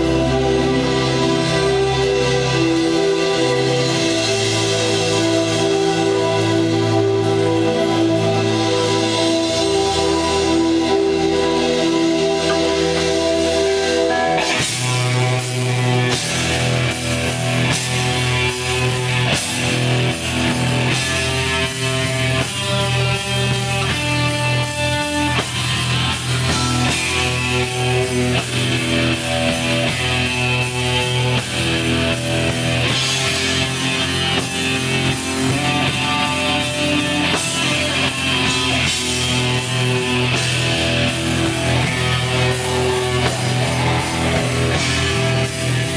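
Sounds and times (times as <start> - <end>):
bass and drums: 0.0 - 45.9
distorted electric guitars: 0.0 - 45.9.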